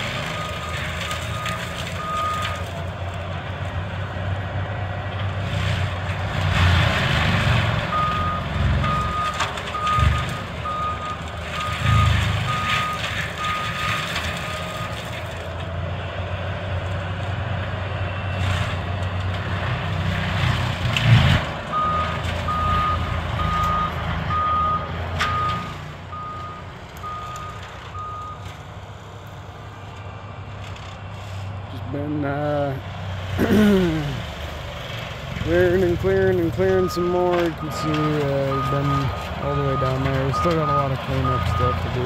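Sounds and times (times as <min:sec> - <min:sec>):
mulcher engine drone: 0:00.0 - 0:42.0.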